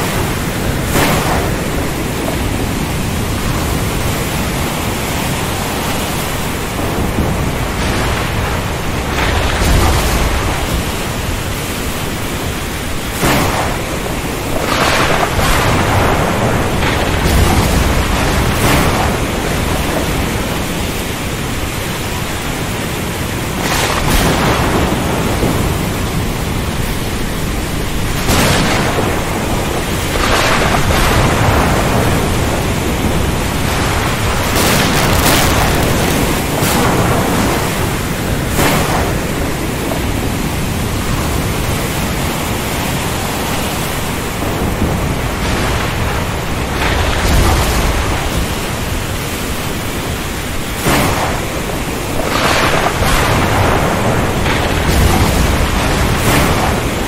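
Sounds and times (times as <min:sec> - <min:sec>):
heavy rain: 0:00.0 - 0:57.0
thunder cracks and rumbles: 0:00.0 - 0:57.0.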